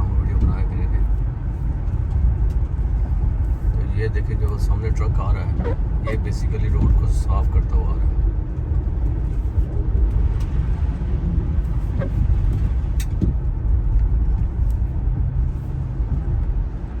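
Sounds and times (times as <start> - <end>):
car driving low rumble: 0.0 - 17.0.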